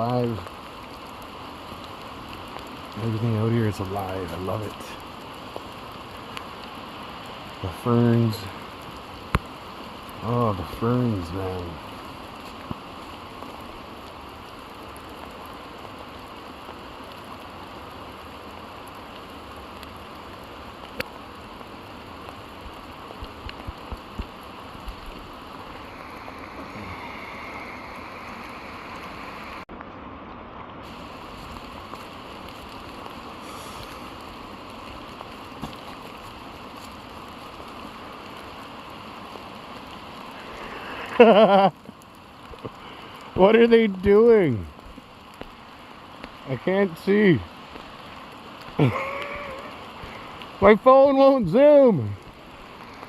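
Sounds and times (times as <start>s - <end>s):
rain falling through canopy: 0.0s - 53.0s.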